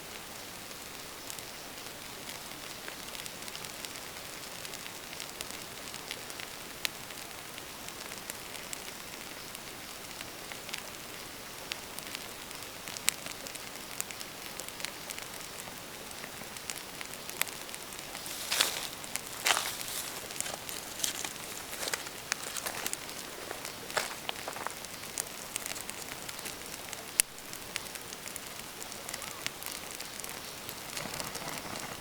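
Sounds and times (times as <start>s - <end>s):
fire crackling and popping: 0.1s - 32.0s
fire hissing: 0.3s - 32.0s.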